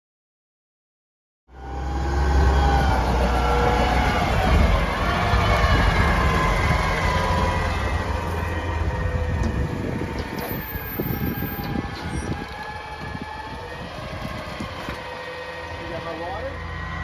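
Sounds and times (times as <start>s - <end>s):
garbage truck high whine: 1.5s - 17.0s
truck engine low rumble: 1.5s - 17.0s.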